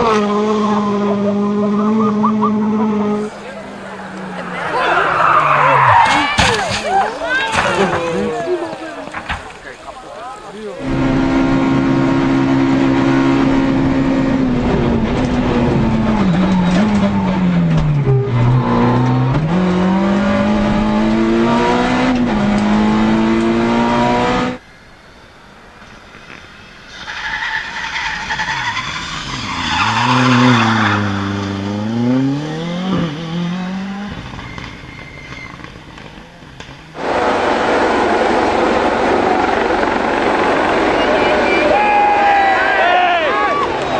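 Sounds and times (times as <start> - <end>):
rally car engine revving: 0.0 - 8.3, 10.8 - 24.6, 26.3 - 42.8
tyres skidding: 0.0 - 43.9.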